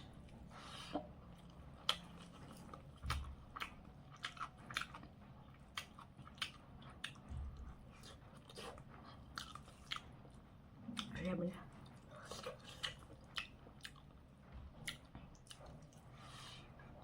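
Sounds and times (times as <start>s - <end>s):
close chewing with mouth clicks: 0.0s - 17.0s.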